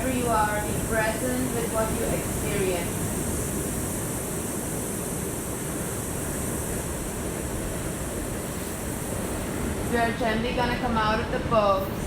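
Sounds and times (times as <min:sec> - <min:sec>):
ocean surf rushing: 0:00.0 - 0:12.0.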